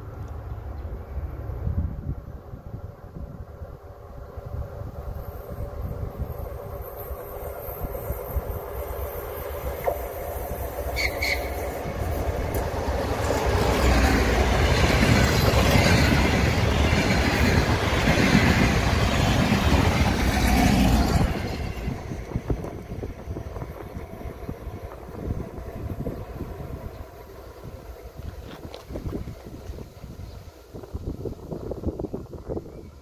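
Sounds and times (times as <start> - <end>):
diesel train passing at speed: 0.0 - 33.0.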